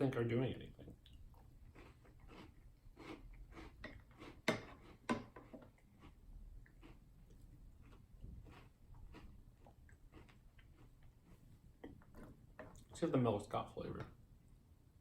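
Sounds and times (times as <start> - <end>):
chewing crunchy cereal: 0.9 - 13.0.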